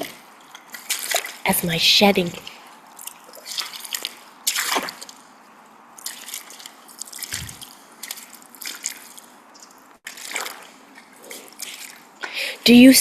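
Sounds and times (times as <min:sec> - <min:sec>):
water dripping and trickling: 0:00.0 - 0:01.5, 0:02.6 - 0:12.4.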